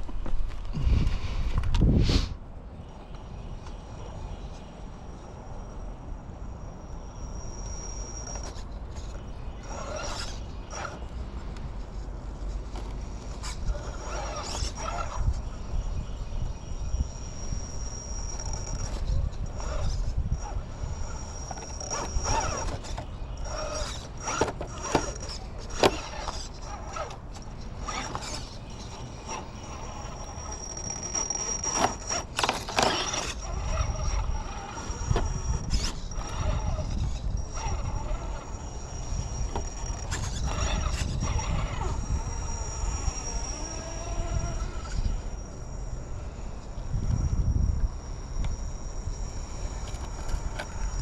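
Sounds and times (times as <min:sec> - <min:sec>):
high thin motor whine: 0:00.0 - 0:51.0
tires scraping on stone: 0:06.8 - 0:51.0.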